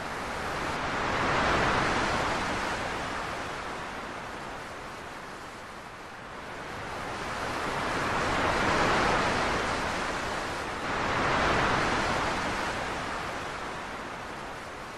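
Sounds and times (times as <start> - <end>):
sea waves washing in: 0.0 - 14.9.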